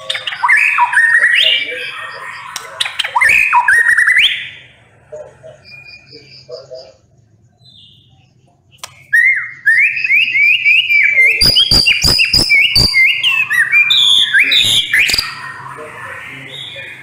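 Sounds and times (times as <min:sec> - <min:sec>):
bird whistling song: 0:00.0 - 0:04.6, 0:05.5 - 0:06.9, 0:07.6 - 0:17.0.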